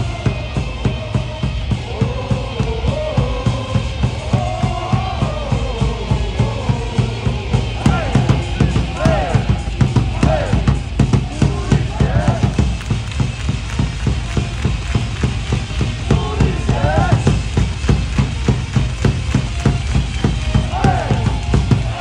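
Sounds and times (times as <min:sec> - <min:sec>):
steady drum beat: 0:00.0 - 0:22.0
crowd chanting: 0:01.7 - 0:19.7, 0:20.5 - 0:22.0.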